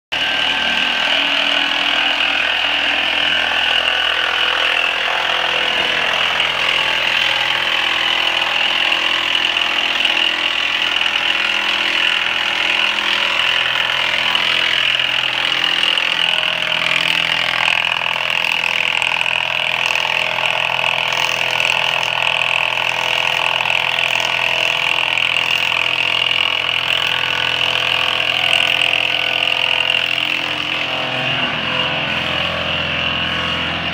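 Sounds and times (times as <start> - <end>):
motor running with high whine: 0.1 - 33.9.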